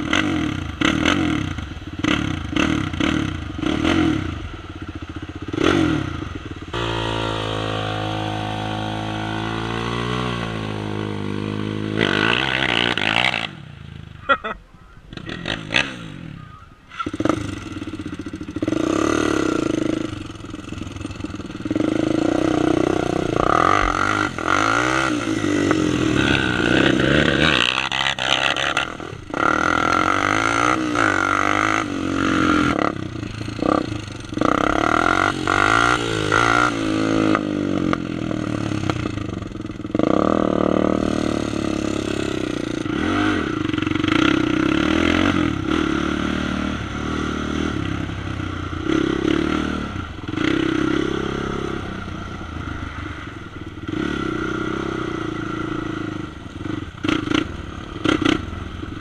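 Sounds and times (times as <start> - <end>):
quad engine revving: 0.0 - 14.2, 15.1 - 53.2, 53.8 - 59.0.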